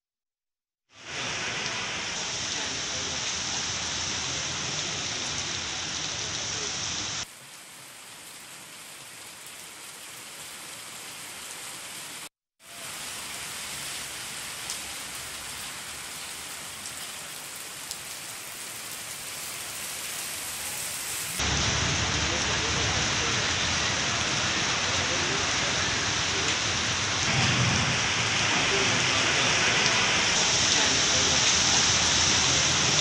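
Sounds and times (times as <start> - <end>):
heavy rain on a wet street: 0.9 - 33.0.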